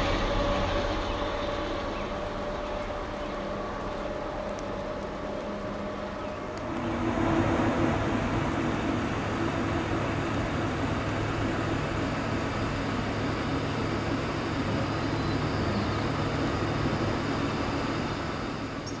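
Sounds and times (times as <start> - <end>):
freight train rumble: 0.0 - 19.0
locomotive engine drone: 0.0 - 19.0.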